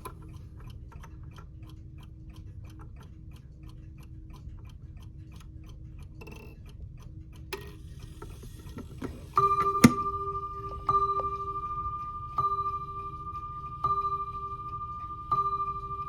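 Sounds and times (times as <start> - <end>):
clock ticking: 0.0 - 16.0.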